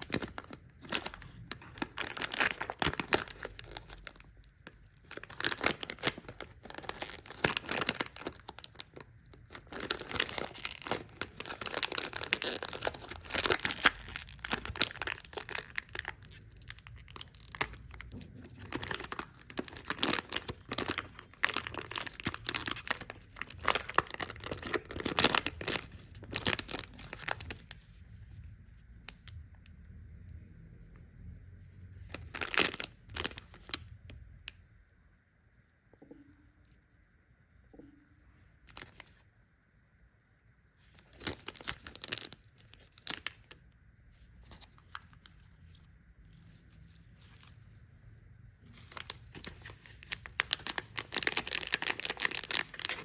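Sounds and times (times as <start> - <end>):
candy packaging crinkling: 0.0 - 29.7, 31.9 - 34.5, 38.6 - 39.2, 40.8 - 53.0.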